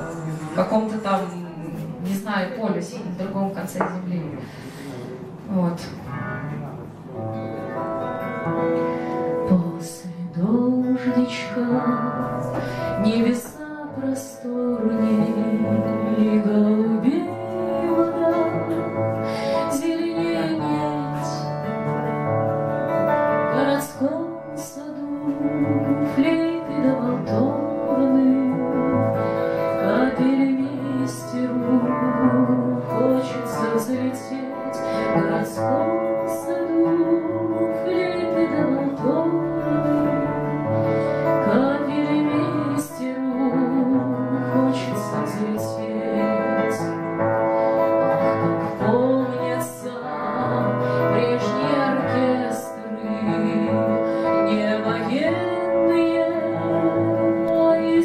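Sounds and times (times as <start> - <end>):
acoustic guitar: 0.0 - 58.0
woman singing: 9.3 - 21.9, 23.4 - 58.0.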